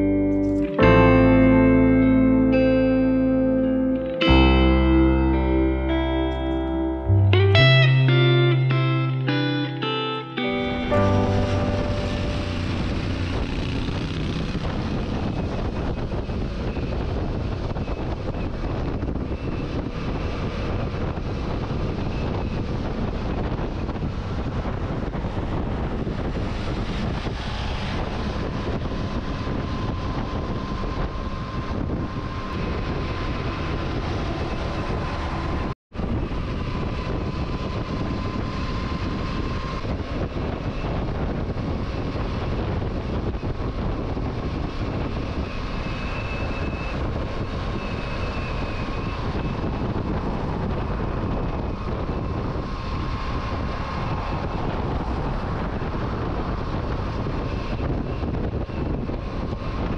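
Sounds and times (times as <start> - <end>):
motorcycle engine and road noise: 0.0 - 59.9
wind rushing over microphone: 0.0 - 59.9.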